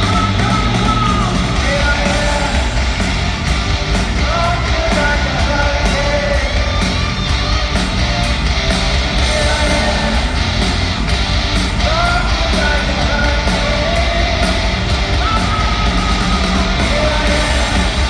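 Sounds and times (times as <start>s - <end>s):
bass: 0.0s - 18.0s
distorted electric guitar: 0.0s - 18.0s
drums: 0.0s - 18.0s.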